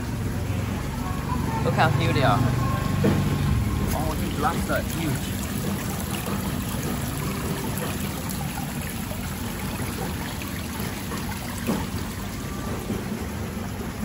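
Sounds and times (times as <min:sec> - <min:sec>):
water running and splashing: 0:01.6 - 0:14.0.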